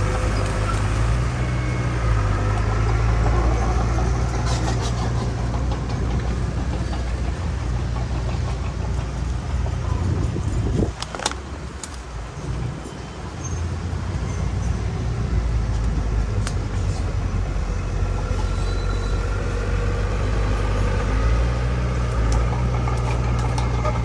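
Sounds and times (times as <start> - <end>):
diesel machinery engine rumble: 0.0 - 24.0.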